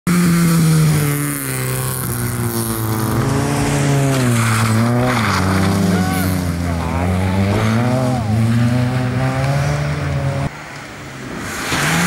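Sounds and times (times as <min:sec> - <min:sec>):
rally car engine revving: 0:00.1 - 0:10.5.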